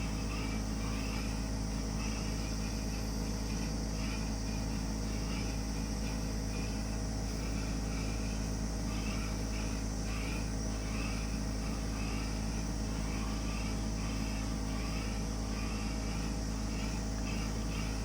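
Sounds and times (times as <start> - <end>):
air conditioner unit humming: 0.0 - 18.0.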